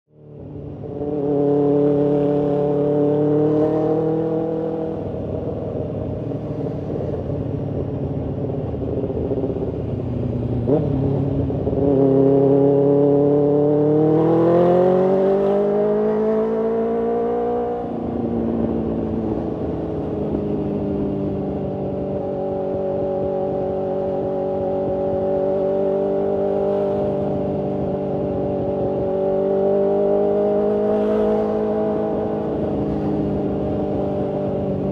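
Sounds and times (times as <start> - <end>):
motorcycle engine and exhaust: 0.1 - 34.9.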